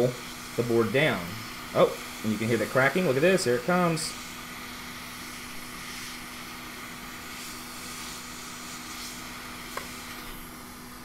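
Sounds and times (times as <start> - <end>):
hot air station blowing: 0.0 - 11.0
steady hum: 0.0 - 11.0.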